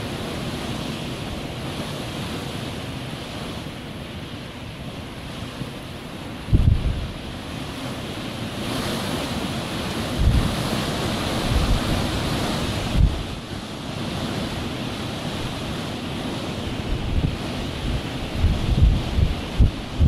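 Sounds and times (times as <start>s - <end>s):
blizzard wind blowing: 0.0s - 20.0s
wind gusts buffeting microphone: 0.0s - 20.0s.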